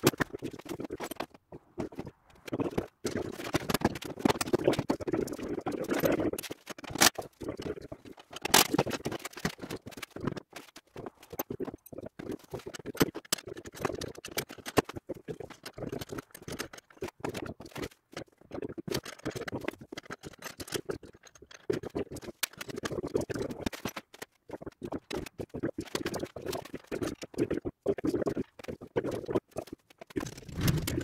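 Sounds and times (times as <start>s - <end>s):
metal parts clattering and knocking: 0.0s - 7.4s, 8.1s - 24.4s, 29.6s - 31.0s.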